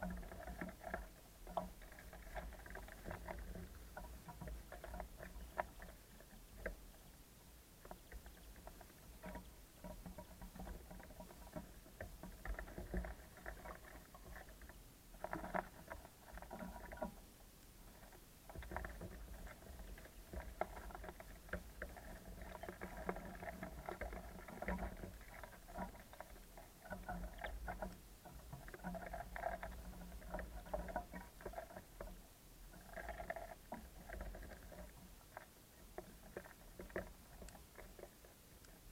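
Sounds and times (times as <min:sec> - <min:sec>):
birds pecking on wooden feeder: 0:00.0 - 0:07.1, 0:07.7 - 0:17.2, 0:17.9 - 0:38.9.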